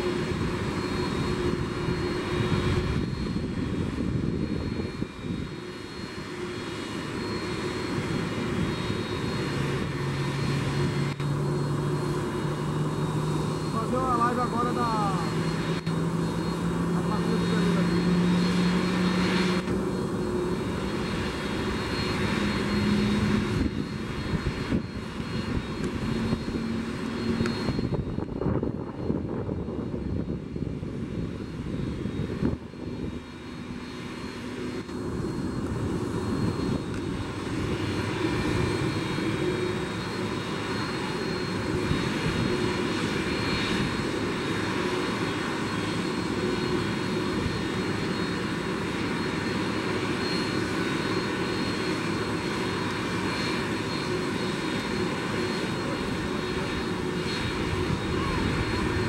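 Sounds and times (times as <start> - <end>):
jet engines running on ground: 0.0 - 59.0.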